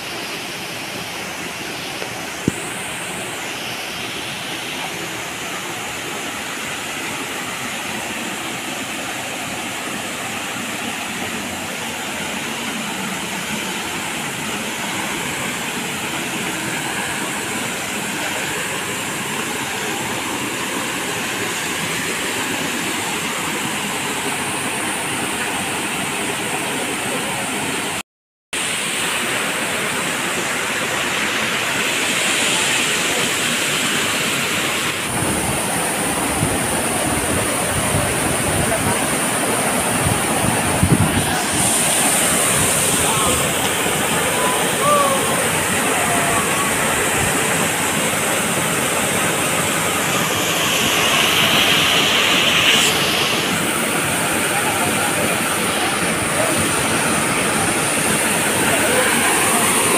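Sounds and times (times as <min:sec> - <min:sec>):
waterfall roaring: 0:00.0 - 0:28.0, 0:28.6 - 0:59.9.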